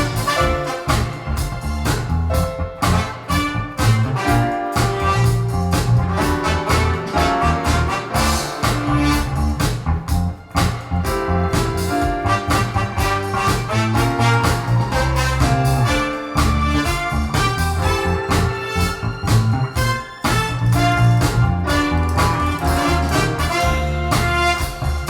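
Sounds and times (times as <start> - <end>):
swing jazz music with brass: 0.0 - 25.0.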